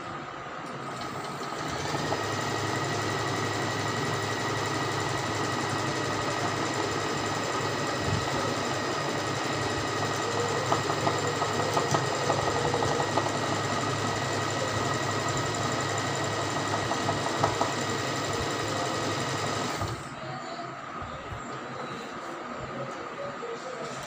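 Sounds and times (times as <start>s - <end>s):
sewing machine running: 0.8s - 20.1s.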